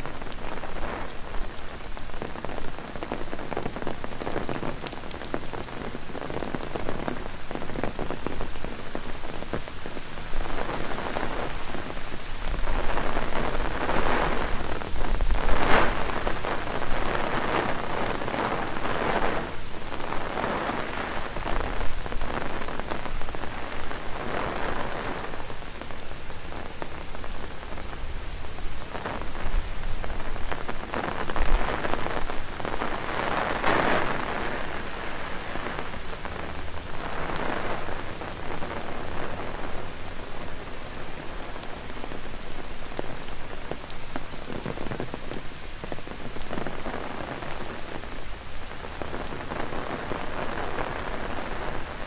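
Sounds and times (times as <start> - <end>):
heavy rain on an umbrella: 0.0 - 52.0.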